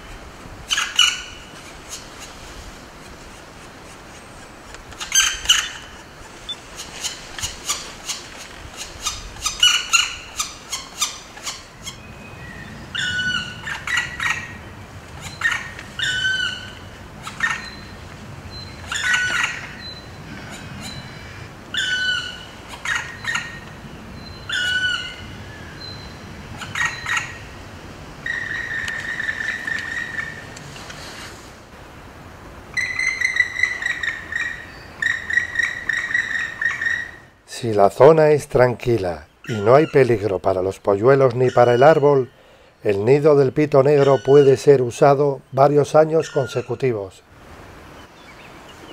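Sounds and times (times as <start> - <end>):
woodpecker calling: 0.0 - 27.6, 28.2 - 30.6, 32.7 - 37.4, 38.0 - 47.1.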